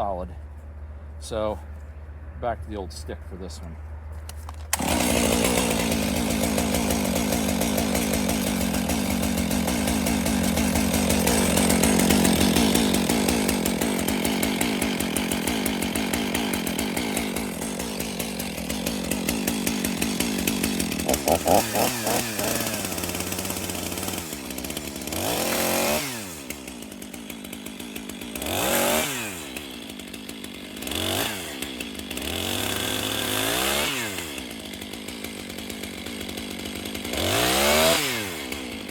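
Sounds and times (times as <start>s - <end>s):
chainsaw cutting wood: 4.2s - 38.9s
chainsaw revving and idling: 4.3s - 38.9s.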